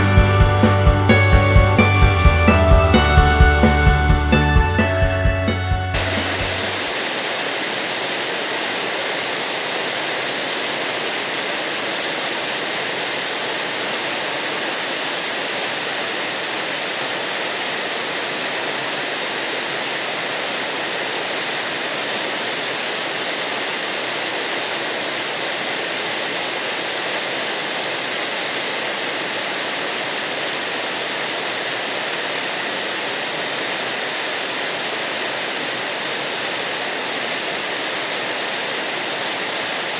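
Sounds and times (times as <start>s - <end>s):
waterfall rushing: 6.0s - 39.9s.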